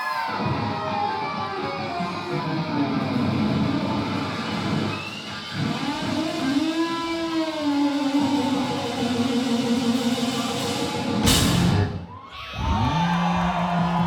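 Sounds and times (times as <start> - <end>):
hard rock band playing: 0.3 - 12.2
electric guitar bending notes: 0.4 - 12.1.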